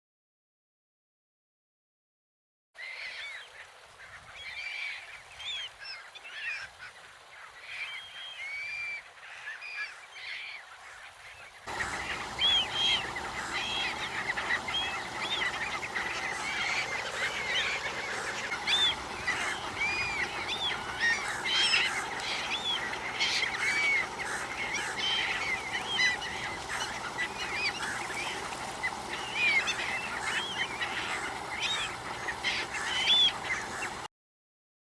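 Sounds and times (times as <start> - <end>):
gulls calling: 2.8 - 34.1.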